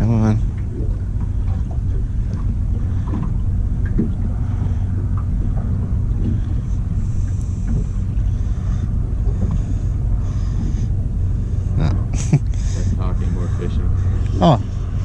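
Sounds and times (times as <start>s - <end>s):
water around boat: 0.0s - 15.0s
wind rumble: 0.0s - 15.0s.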